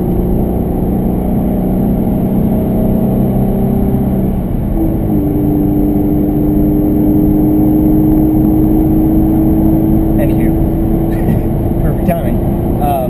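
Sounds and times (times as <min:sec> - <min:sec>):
car engine running: 0:00.0 - 0:13.0
road noise inside car: 0:00.0 - 0:13.0.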